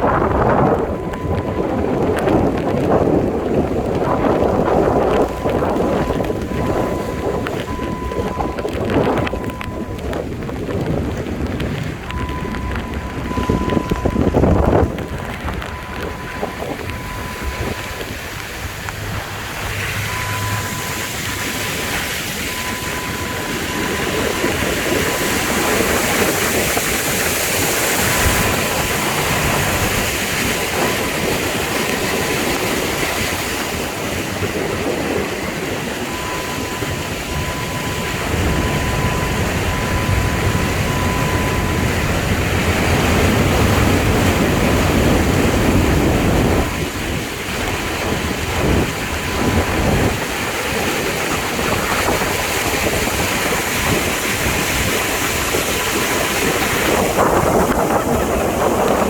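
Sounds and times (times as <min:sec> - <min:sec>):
rain: 0:00.0 - 0:59.0
wind buffeting microphone: 0:00.0 - 0:59.0.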